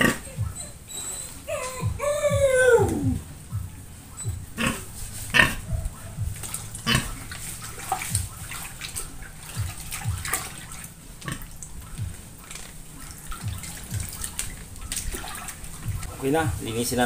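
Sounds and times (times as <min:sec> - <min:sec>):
water sloshing in a plastic bucket: 0:02.9 - 0:17.0.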